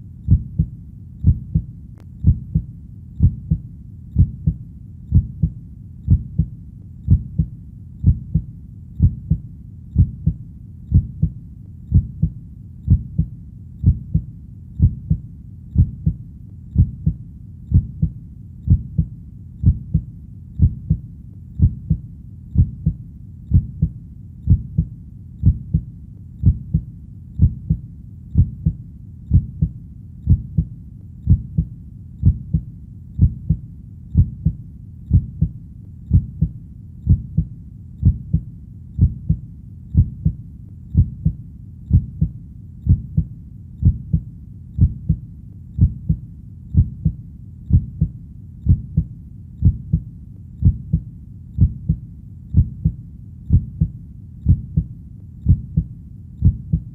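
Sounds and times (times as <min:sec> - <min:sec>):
heartbeat thumps: 0:00.0 - 0:56.9.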